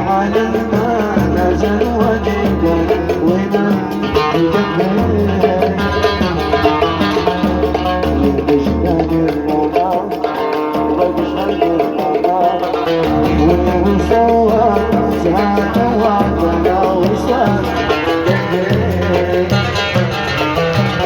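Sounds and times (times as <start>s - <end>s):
plucked string melody: 0.0s - 21.0s.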